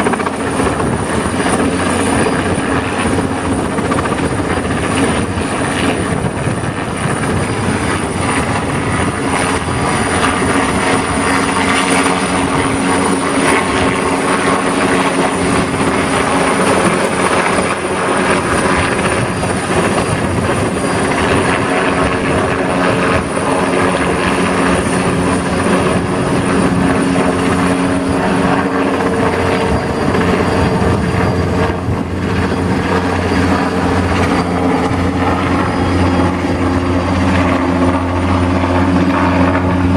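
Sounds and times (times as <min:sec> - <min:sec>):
large fan machine whirring: 0:00.0 - 0:39.9.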